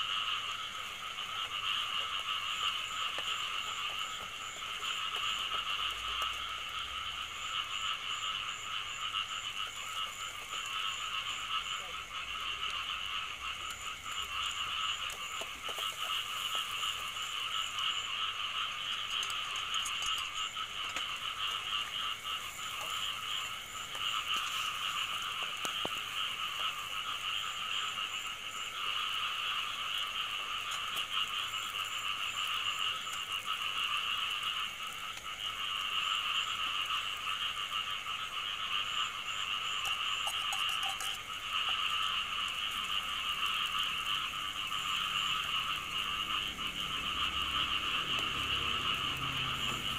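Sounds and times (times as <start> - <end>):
chorus of frogs calling: 0.0 - 49.9.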